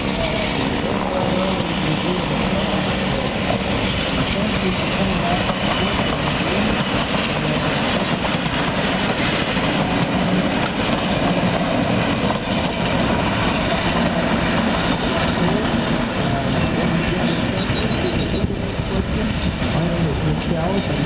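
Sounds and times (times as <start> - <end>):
electric train running past: 0.0 - 21.0.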